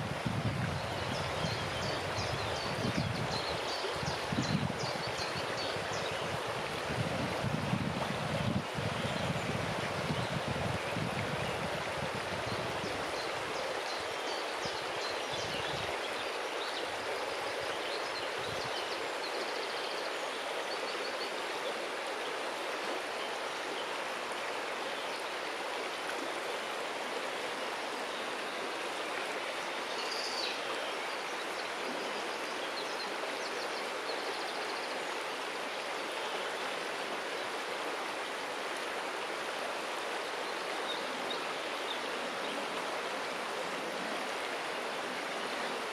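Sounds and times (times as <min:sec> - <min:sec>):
river water rushing and babbling: 0:00.0 - 0:45.9.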